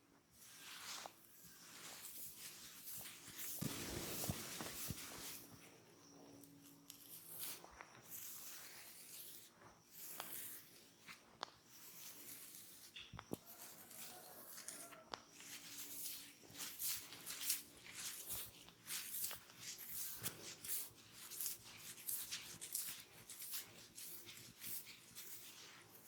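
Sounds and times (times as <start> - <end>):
hands rubbing skin and hair: 0.4 - 26.0.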